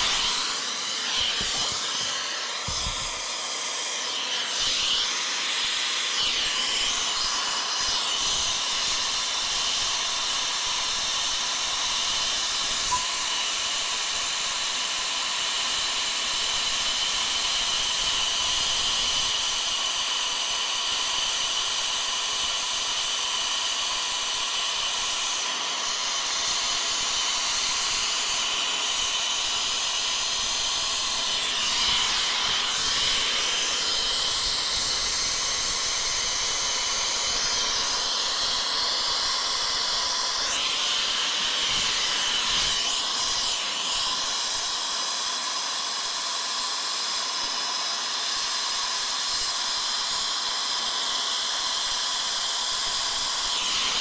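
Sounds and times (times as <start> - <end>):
brazing torch hissing: 0.0 - 46.1.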